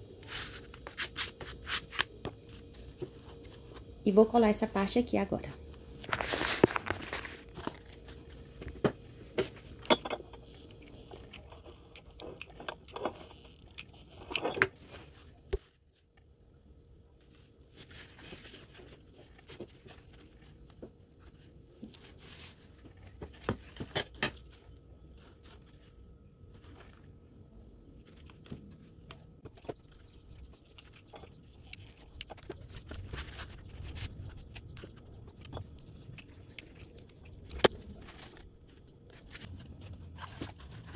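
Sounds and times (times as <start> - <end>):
crafting materials being handled: 0.1 - 16.0, 17.2 - 40.9.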